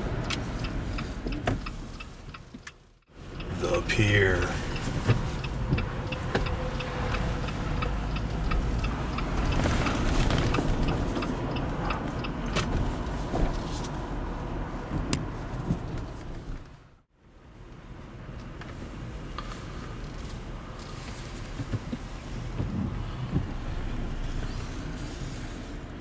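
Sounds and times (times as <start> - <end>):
turn signal clicking: 0.0 - 16.8, 18.3 - 25.0
engine and road noise: 0.0 - 26.0.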